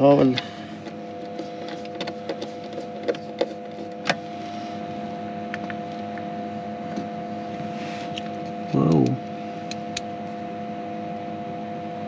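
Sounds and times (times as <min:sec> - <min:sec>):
battery charger humming: 0:00.0 - 0:12.0.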